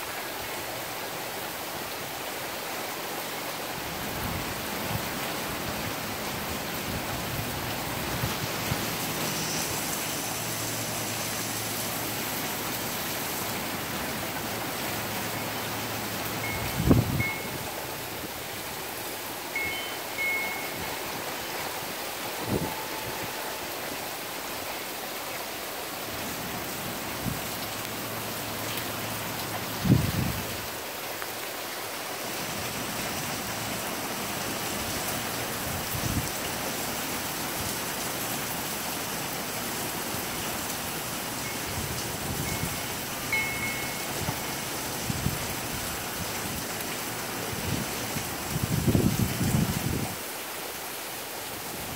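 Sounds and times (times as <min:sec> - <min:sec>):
heavy rain hiss: 0:00.0 - 0:51.9.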